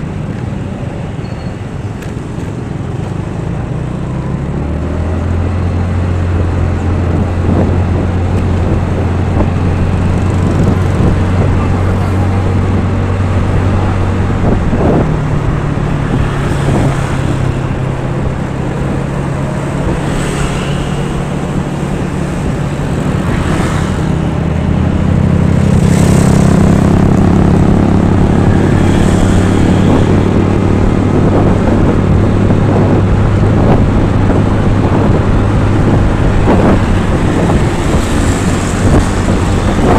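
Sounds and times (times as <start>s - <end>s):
traffic noise: 0.0s - 39.9s
vehicles passing by: 0.0s - 39.9s.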